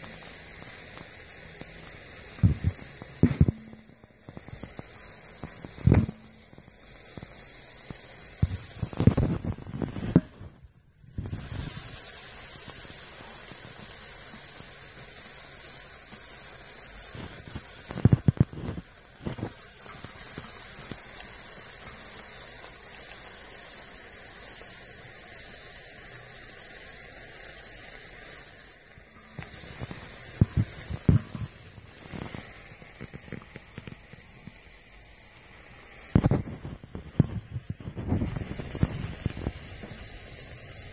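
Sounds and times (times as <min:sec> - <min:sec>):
hot metal sizzling on cheese: 0:00.0 - 0:40.9.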